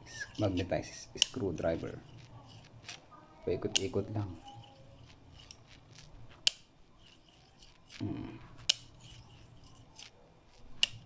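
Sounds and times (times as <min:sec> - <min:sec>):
metal scraping on magnet: 0:00.0 - 0:11.0.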